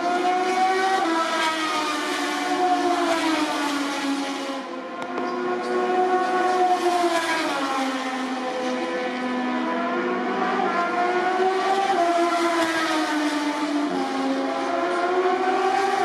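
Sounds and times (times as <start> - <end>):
motorcycle engines revving hard: 0.0 - 16.0.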